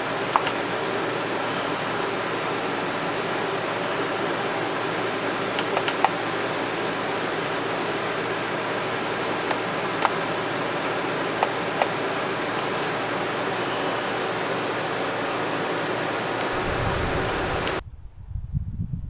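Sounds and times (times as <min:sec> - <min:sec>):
steady hiss like a fan: 0:00.0 - 0:19.0.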